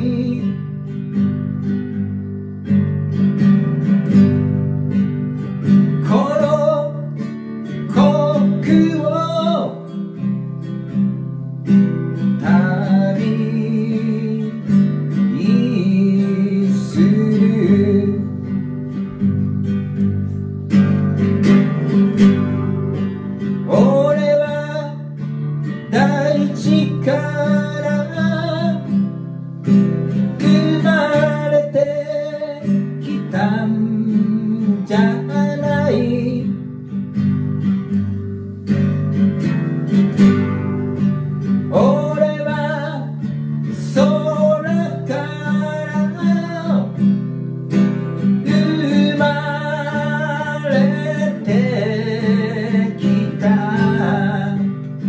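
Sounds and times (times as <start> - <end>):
man singing folk song: 0.0 - 55.0
strummed acoustic guitar: 0.0 - 55.0.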